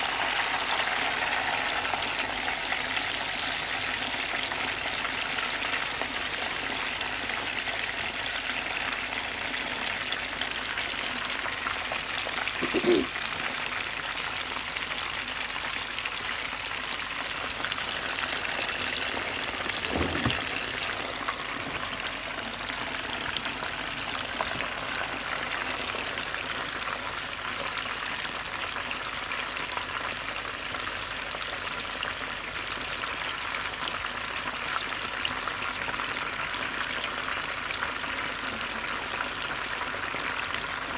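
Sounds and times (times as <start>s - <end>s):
fish sizzling in hot oil: 0.0s - 40.9s.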